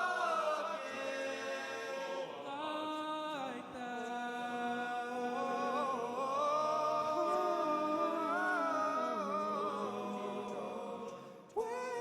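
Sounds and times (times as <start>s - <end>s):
male vocal group singing harmony: 0.0s - 12.0s.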